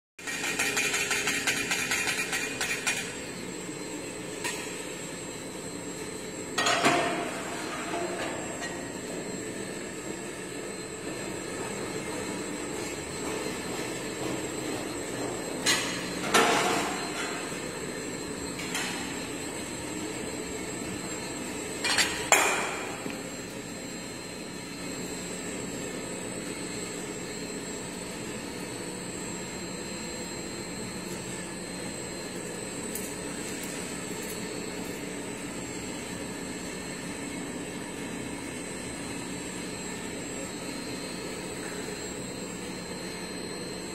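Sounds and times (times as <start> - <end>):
machine humming: 0.2 - 43.9.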